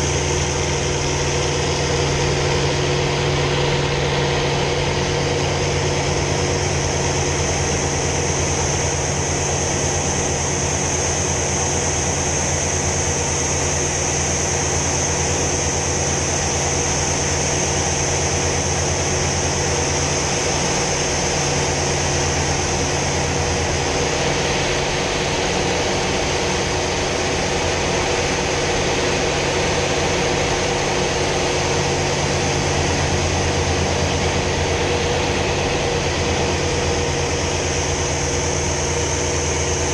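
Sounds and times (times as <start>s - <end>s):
piston engine drone: 0.0s - 39.9s.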